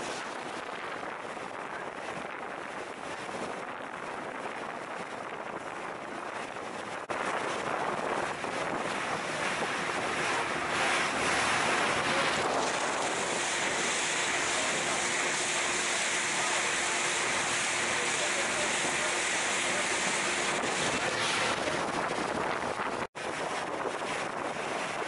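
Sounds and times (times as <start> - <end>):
water rushing along a boat hull: 0.0 - 25.0
wind on the microphone: 0.0 - 25.0.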